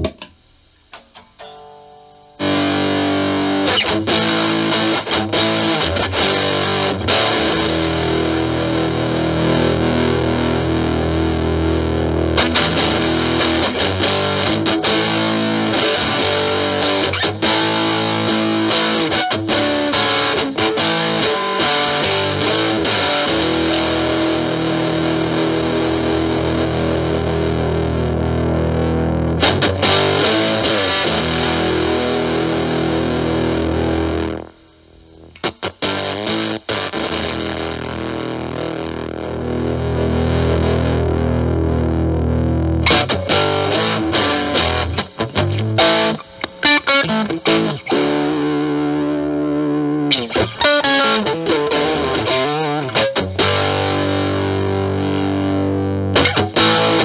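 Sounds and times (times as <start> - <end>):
distorted electric guitar chords: 0.0 - 57.0.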